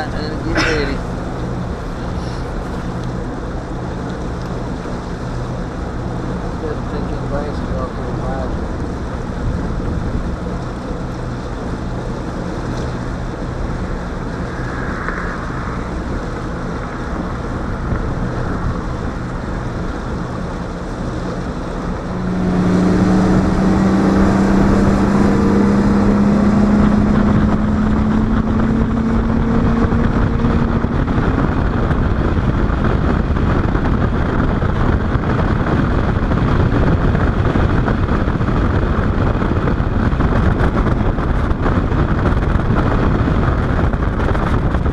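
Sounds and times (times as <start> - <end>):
outboard motor running: 0.0 - 44.9
water noise: 0.0 - 44.9
wind on microphone: 0.0 - 44.9.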